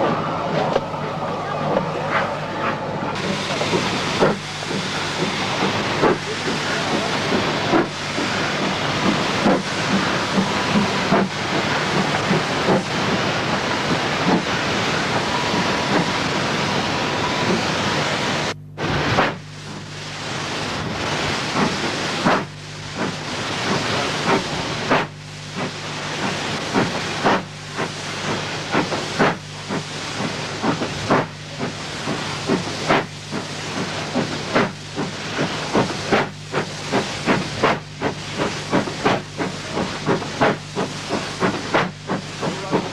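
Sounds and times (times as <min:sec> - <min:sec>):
rhythmic train pulses and clicks: 0:00.0 - 0:42.9
steam train hissing: 0:00.0 - 0:42.9.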